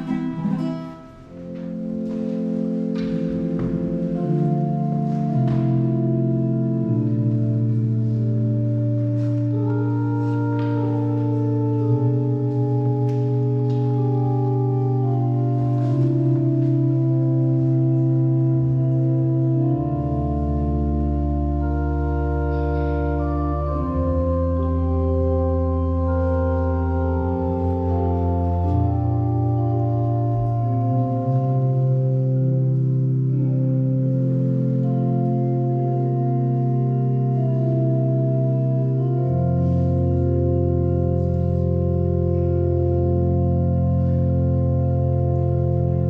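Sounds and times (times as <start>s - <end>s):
church organ chords: 0.0s - 46.0s
deep organ bass note: 2.8s - 46.0s.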